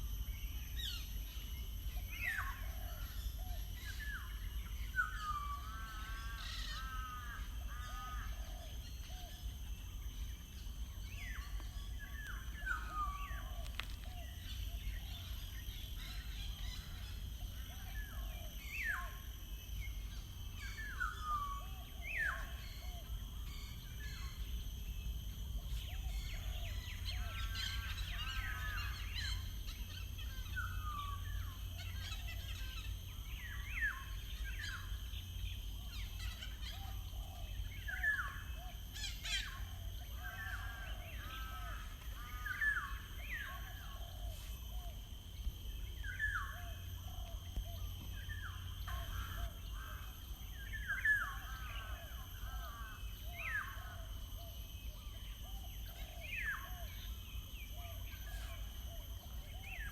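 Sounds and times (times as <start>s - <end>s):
birds calling and singing: 0.2s - 59.9s.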